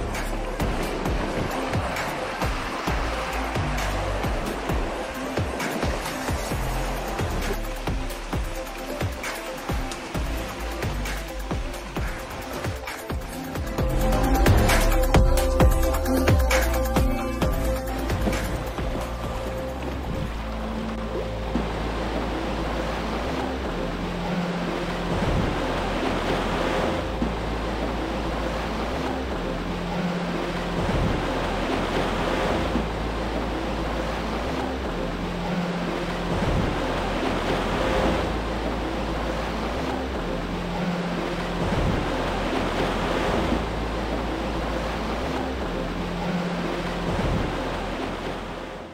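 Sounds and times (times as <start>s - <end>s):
low sustained music chords: 0.0s - 48.9s
rushing water: 0.0s - 48.9s.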